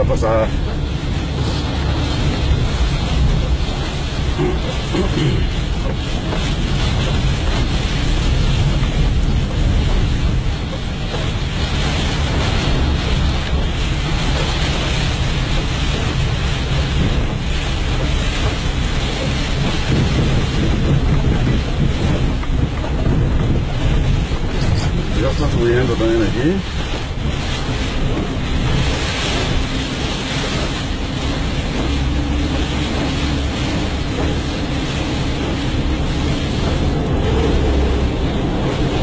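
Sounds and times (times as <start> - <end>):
heavy low rumble: 0.0 - 39.0
rain: 0.0 - 39.0
wind on microphone: 0.0 - 39.0.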